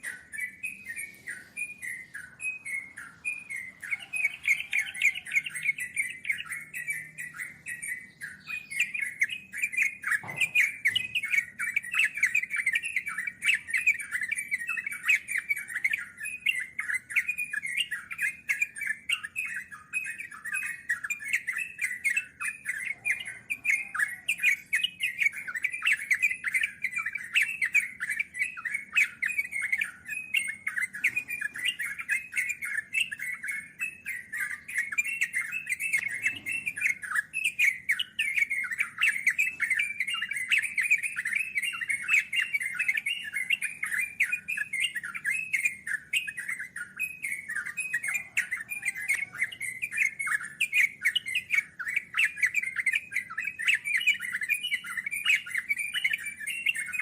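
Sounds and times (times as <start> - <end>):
bulbuls chattering: 0.0 - 57.0.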